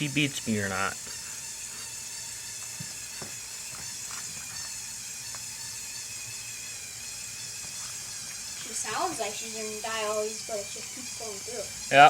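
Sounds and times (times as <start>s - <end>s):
toy electric motors whirring: 0.0s - 12.0s.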